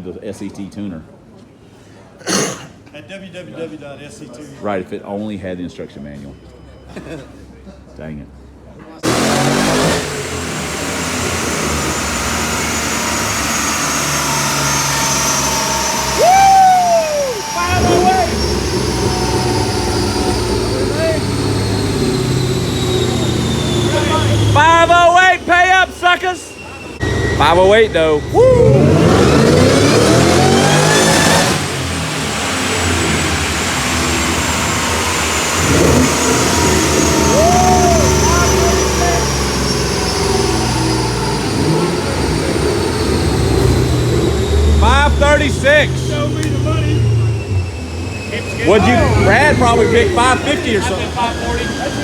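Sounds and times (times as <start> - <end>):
car engine revving hard: 9.0 - 25.6, 27.0 - 52.0
dyno rollers winding down: 9.0 - 52.0.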